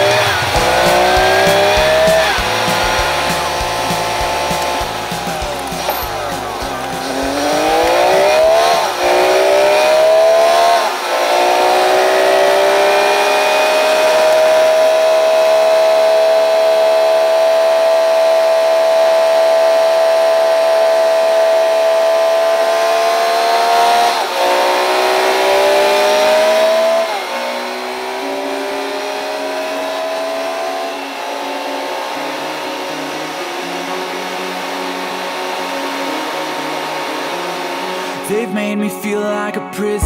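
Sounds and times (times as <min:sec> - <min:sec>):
truck diesel engine shifting gears: 0:00.0 - 0:34.9.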